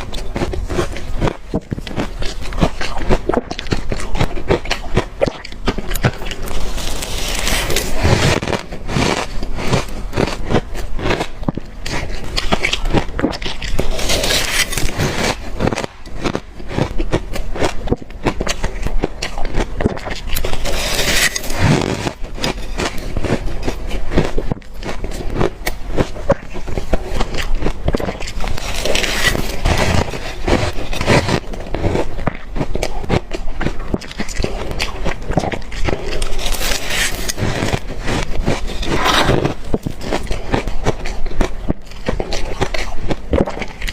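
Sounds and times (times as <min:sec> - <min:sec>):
chewing crushed ice: 0:00.0 - 0:43.9.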